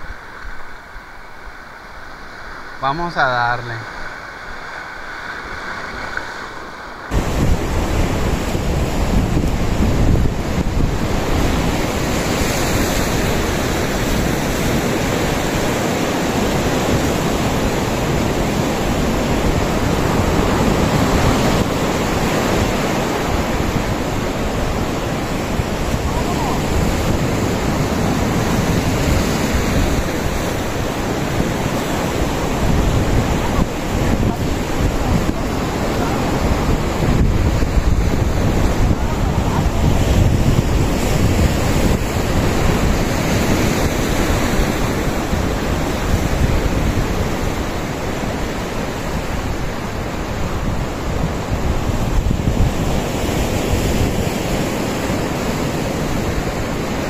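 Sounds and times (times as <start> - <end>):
ocean surf breaking on rocks: 0.0 - 57.0
wind buffeting microphone: 3.6 - 57.0.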